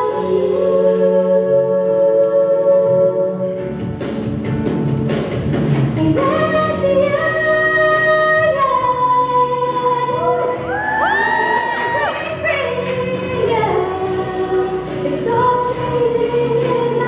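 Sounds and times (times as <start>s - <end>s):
girls singing pop ballad: 0.0s - 4.5s, 5.5s - 17.0s.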